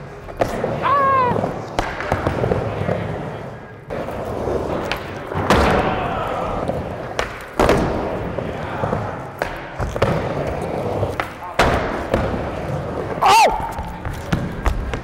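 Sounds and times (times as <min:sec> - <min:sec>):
skateboard wheels rolling: 0:00.0 - 0:15.0
skateboard thudding: 0:00.3 - 0:15.0.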